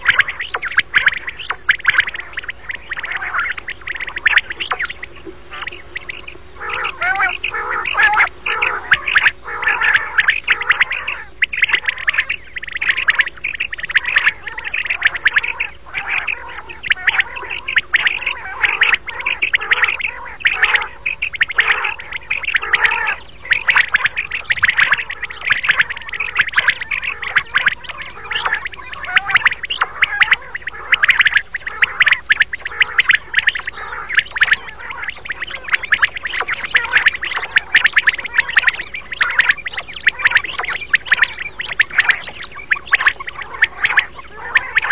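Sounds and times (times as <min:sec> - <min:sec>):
quails calling: 0:00.0 - 0:44.9.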